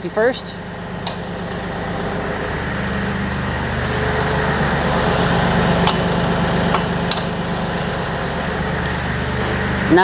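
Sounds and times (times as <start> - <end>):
diesel tractor engine running: 0.0 - 10.0.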